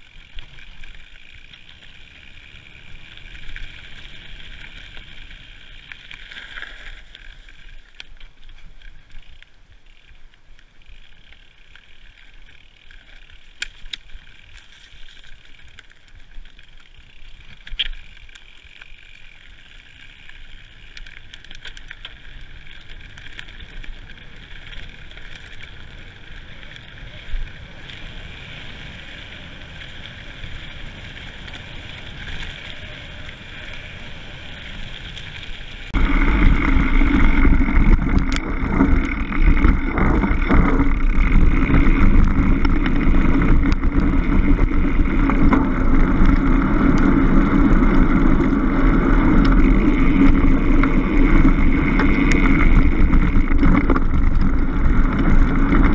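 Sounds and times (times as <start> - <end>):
bike rattling: 0.0 - 55.9
wind and tyre noise: 0.0 - 55.9.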